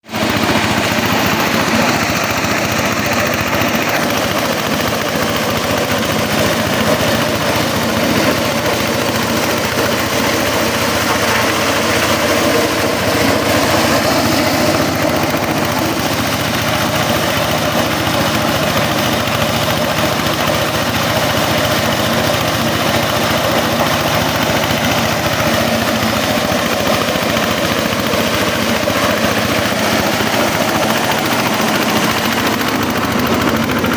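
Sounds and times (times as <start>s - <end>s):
corn sheller machine running: 0.0s - 33.9s.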